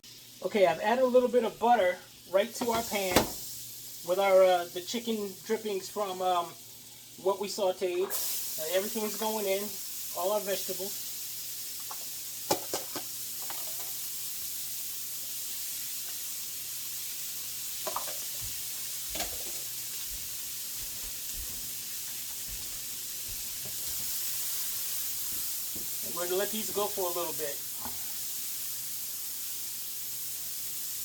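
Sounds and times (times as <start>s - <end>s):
vegetables sizzling in a pan: 0.0s - 31.0s.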